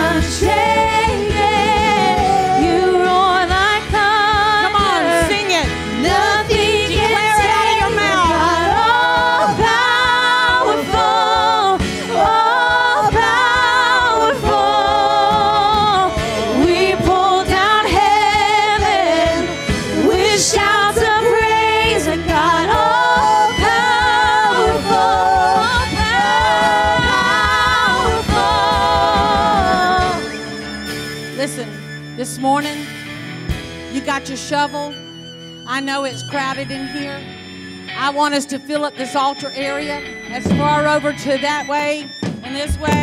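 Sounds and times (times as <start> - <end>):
woman singing: 0.0 - 30.4, 38.0 - 43.0
drums: 0.0 - 34.6, 39.5 - 43.0
electric guitar: 0.0 - 35.3, 36.4 - 43.0
keyboard: 0.0 - 43.0.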